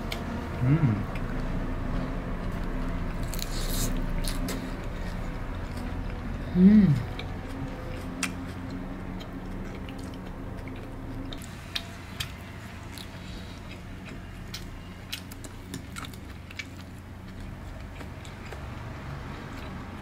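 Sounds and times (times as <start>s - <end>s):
chewing mouth sounds: 2.4s - 20.0s.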